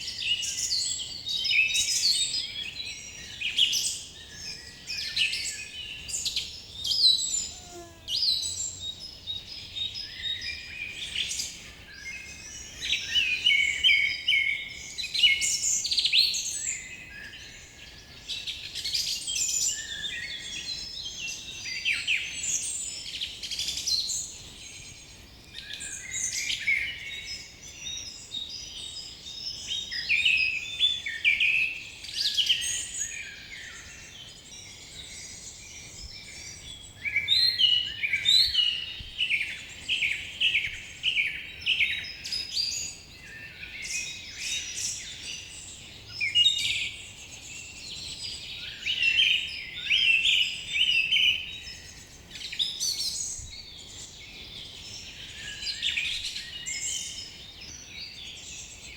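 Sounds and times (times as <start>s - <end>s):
wild birds singing: 0.0s - 58.9s.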